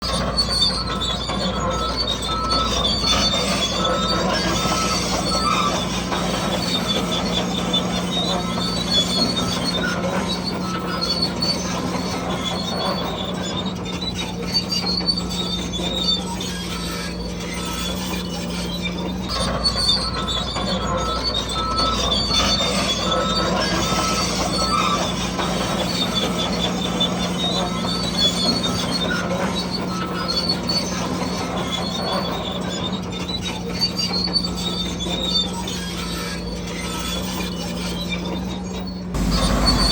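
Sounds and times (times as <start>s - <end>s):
electric motors whining and grinding: 0.0s - 39.9s
high squealing tones: 0.1s - 39.9s.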